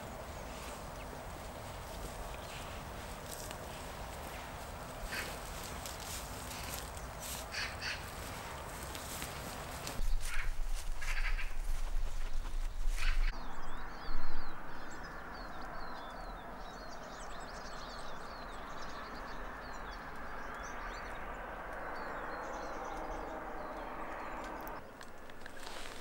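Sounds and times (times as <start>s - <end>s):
small birds chirping: 0.0s - 26.0s
steady outdoor hiss: 0.0s - 26.0s.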